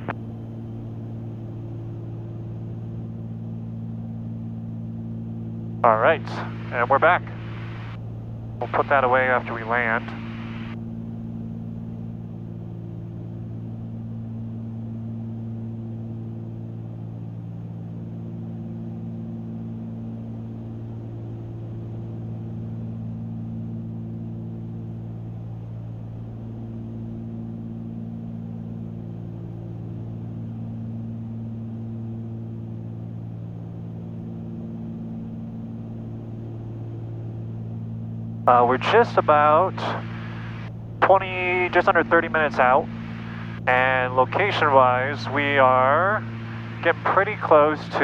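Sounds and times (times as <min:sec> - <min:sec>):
propeller plane engines droning: 0:00.0 - 0:48.0.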